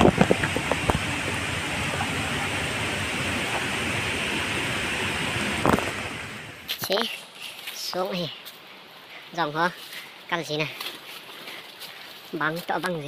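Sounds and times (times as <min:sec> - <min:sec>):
stream water running over rocks: 0:00.0 - 0:13.0.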